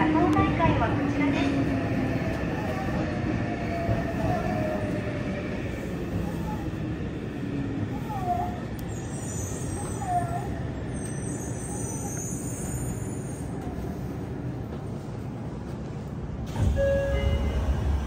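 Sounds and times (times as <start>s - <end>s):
subway car wheels rumbling: 0.0s - 18.0s.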